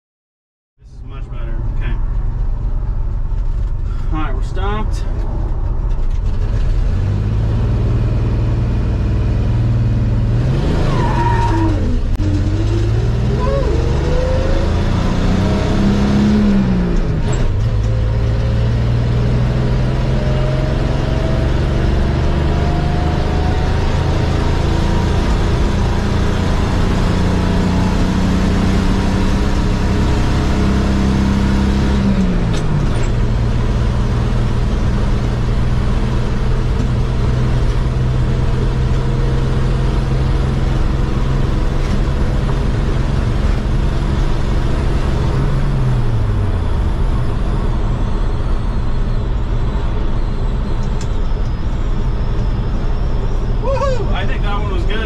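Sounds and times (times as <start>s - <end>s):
truck engine accelerating: 0.9s - 55.0s.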